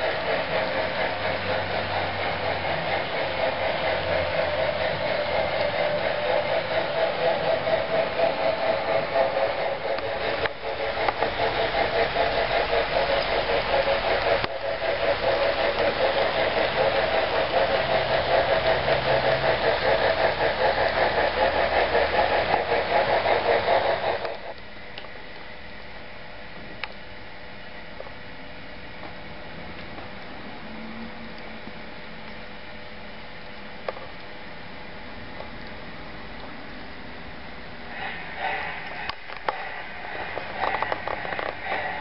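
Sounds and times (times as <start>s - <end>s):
model train rumbling on track: 0.0s - 25.0s, 26.2s - 33.3s, 33.9s - 42.0s.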